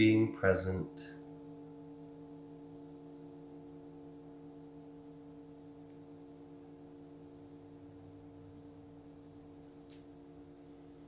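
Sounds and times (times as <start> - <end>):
singing bowl ringing: 0.3 - 11.0.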